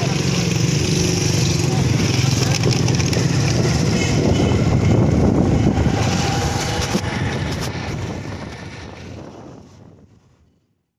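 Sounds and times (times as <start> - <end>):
motorcycle engine running: 0.0 - 9.0
wind buffeting microphone: 1.8 - 10.8.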